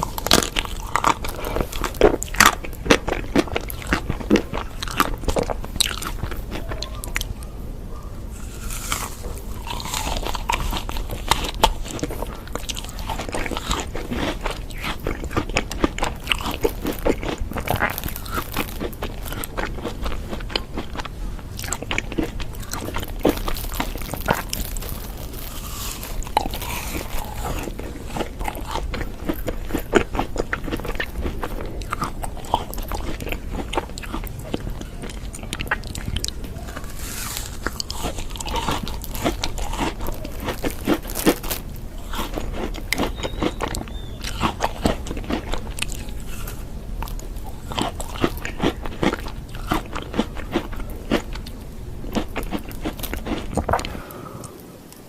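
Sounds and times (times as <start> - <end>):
crunchy food chewing: 0.0 - 55.0.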